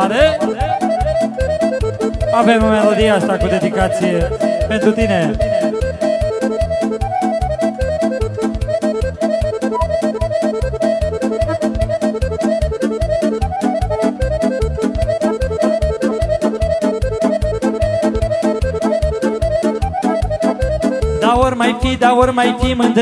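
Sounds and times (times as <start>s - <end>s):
accordion-led folk dance music: 0.0s - 23.0s.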